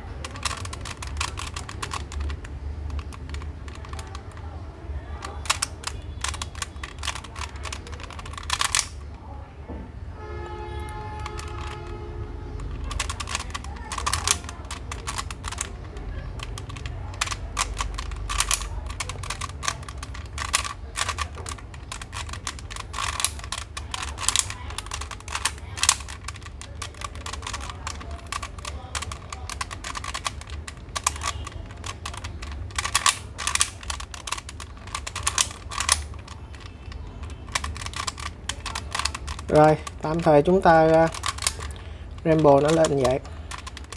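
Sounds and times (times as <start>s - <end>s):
plastic puzzle clicking and clacking: 0.0s - 9.2s, 10.8s - 43.9s.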